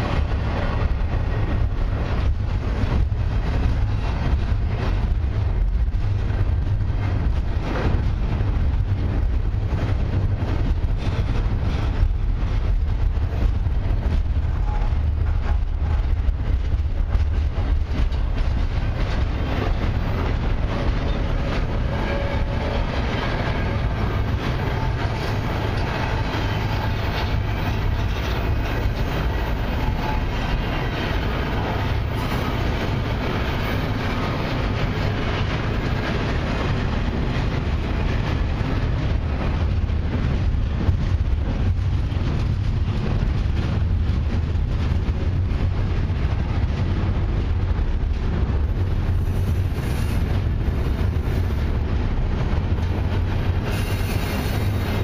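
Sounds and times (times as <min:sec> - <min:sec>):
freight train rumbling past: 0:00.0 - 0:55.0
train wheels clicking: 0:00.0 - 0:55.0.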